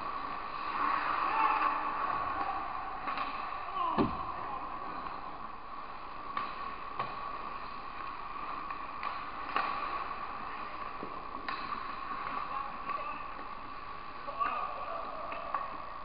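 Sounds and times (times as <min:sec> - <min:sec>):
sticks and skates tapping on ice: 0:00.1 - 0:04.3, 0:05.8 - 0:16.0.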